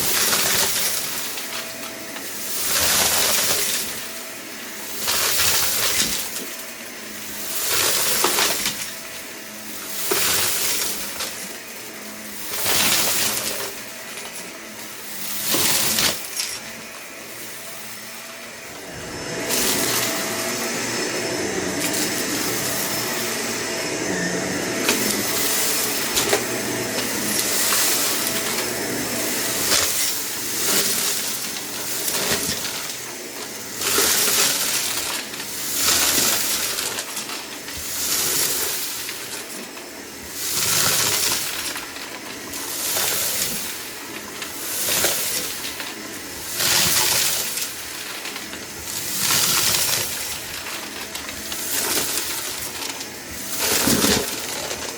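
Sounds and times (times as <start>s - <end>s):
debris clicking in vacuum: 0.0s - 4.2s, 4.9s - 17.5s, 19.5s - 20.8s, 21.6s - 23.5s, 24.8s - 54.9s
vacuum cleaner running: 0.0s - 54.9s.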